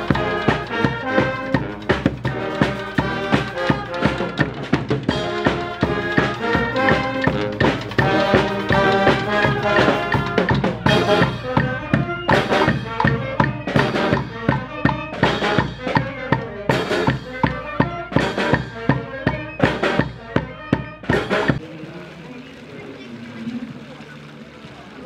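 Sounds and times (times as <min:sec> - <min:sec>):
snare and bass drums: 0:00.0 - 0:21.6
street brass band playing: 0:00.0 - 0:25.0.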